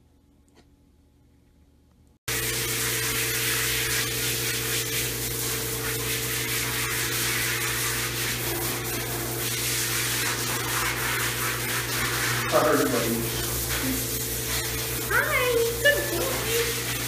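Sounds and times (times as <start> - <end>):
shower water spraying: 2.3 - 17.0.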